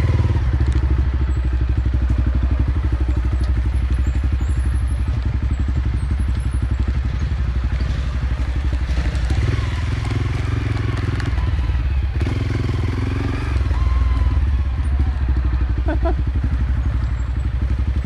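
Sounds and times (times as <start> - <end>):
dirt bike engine at low revs: 0.0 - 18.0.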